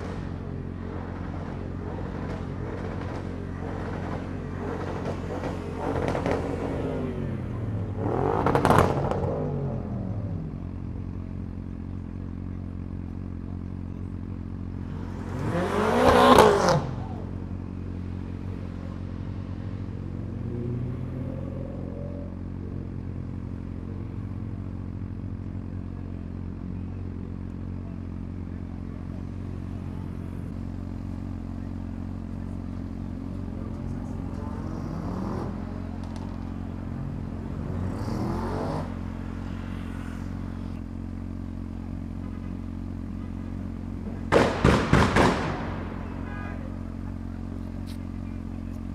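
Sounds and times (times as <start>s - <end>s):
motorcycle engine idling: 0.0s - 48.9s
motorcycle engine revving: 0.0s - 48.9s.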